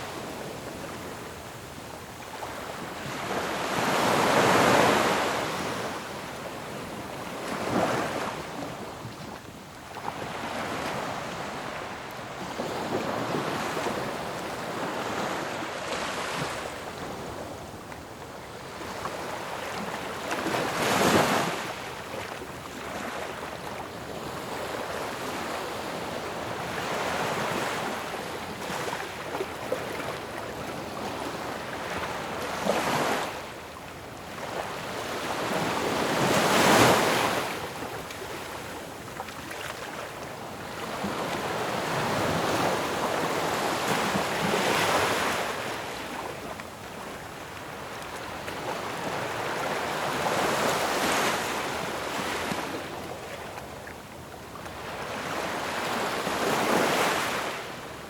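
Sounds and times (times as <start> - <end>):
ocean waves crashing on shore: 0.0 - 9.0, 9.6 - 53.5, 54.5 - 58.0.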